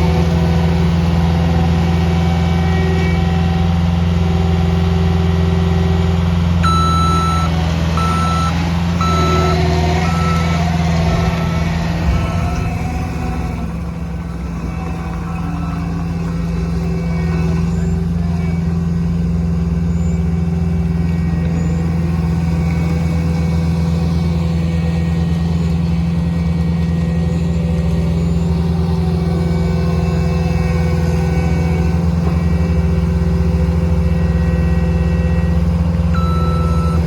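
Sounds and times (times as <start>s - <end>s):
loader engine running under load: 0.0s - 37.0s.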